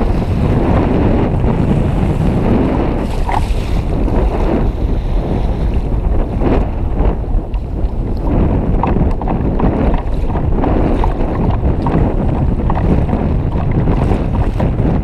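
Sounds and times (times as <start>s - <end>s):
water splashing against kayak: 0.0s - 15.0s
wind buffeting microphone: 0.0s - 15.0s.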